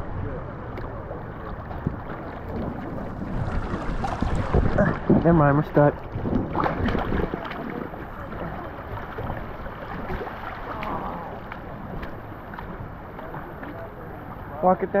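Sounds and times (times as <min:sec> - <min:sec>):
river water rushing and splashing: 0:00.8 - 0:15.0.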